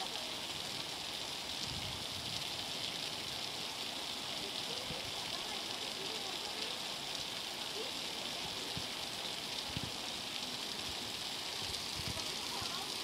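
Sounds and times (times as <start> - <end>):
floodwater rushing: 0.0 - 13.0
heavy rain pouring: 0.0 - 13.0.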